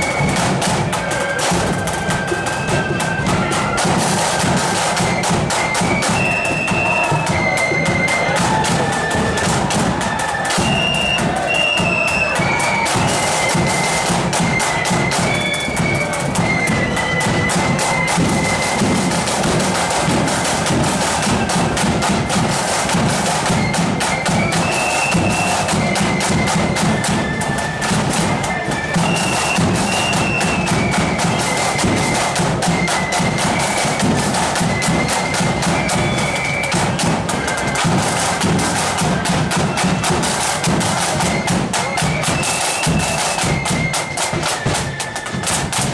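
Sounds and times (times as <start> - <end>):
flutes playing a tune: 0.0 - 45.9
side drums: 0.0 - 45.9.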